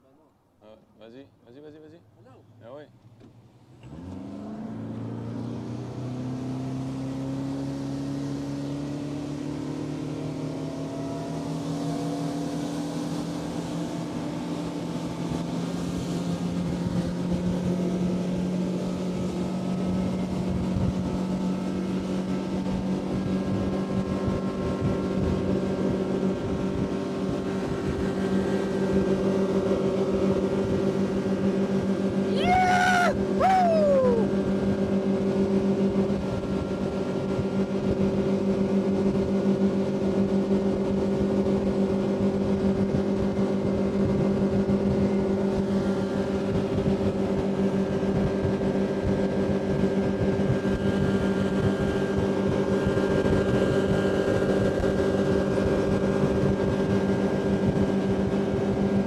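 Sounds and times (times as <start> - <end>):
outboard motor running at high speed: 2.3 - 59.0
wind and water rushing: 3.8 - 59.0.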